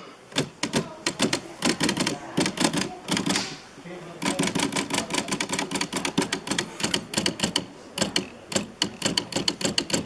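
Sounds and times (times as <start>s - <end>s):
manual typewriter typing: 0.3s - 10.0s.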